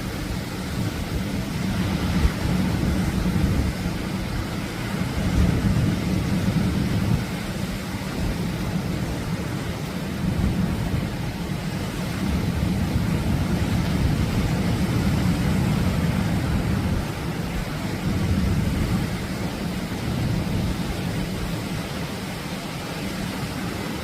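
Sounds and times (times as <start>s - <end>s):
surf waves breaking: 0.0s - 24.0s.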